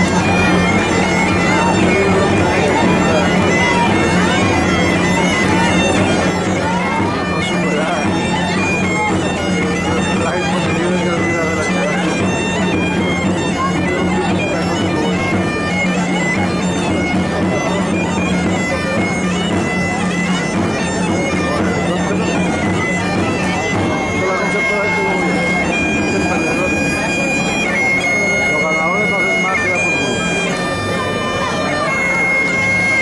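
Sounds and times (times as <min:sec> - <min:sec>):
bagpipe music: 0:00.0 - 0:33.0.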